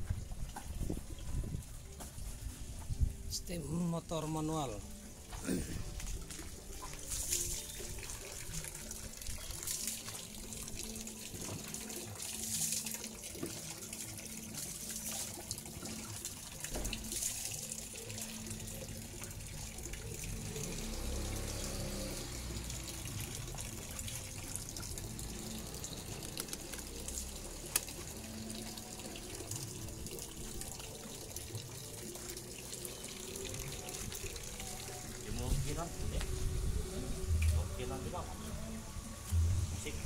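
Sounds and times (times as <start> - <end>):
water running from a hose into a tub: 0.0 - 38.3.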